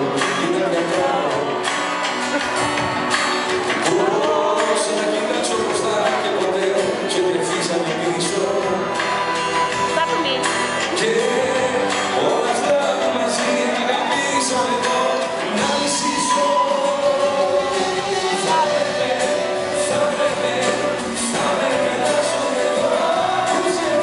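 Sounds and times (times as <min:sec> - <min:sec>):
man singing into microphone: 0:00.0 - 0:01.8, 0:03.8 - 0:09.9, 0:10.7 - 0:24.0
keyboards: 0:00.0 - 0:24.0
percussion: 0:00.0 - 0:24.0.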